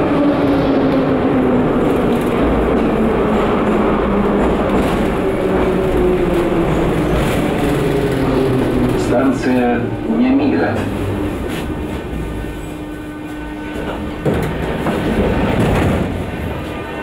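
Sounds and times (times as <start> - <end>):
train motor hum: 0.0 - 17.0
train wheels rumbling on rail: 0.0 - 17.0.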